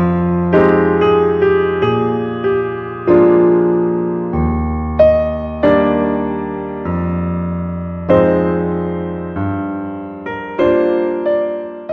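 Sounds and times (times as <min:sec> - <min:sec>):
soft piano chords: 0:00.0 - 0:11.9.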